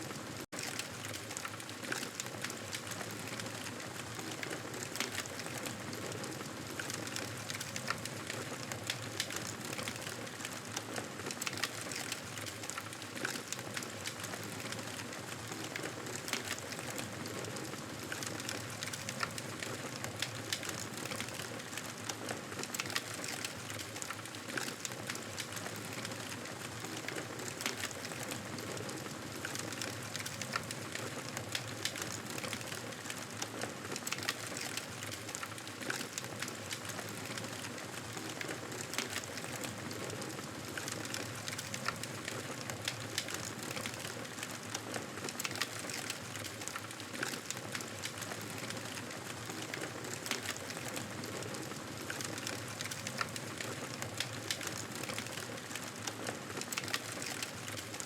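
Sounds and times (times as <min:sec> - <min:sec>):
wood fire crackling: 0:00.1 - 0:58.0.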